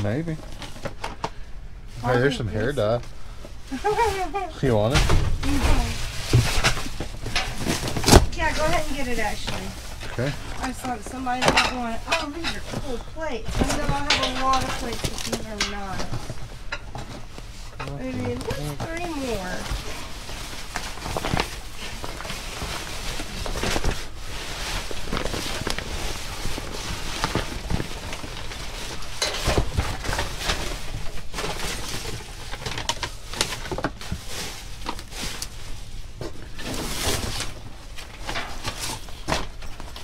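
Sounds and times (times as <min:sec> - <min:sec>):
plastic and cardboard rustling: 0:00.0 - 0:40.0.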